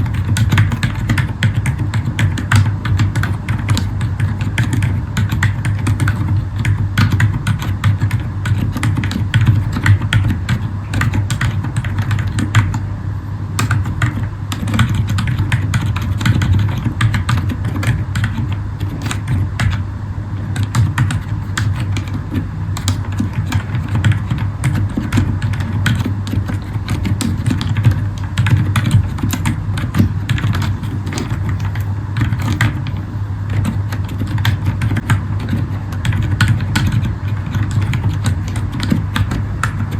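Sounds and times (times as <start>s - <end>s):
soft mechanical keyboard typing: 0.0s - 12.8s, 13.6s - 19.8s, 20.4s - 39.9s.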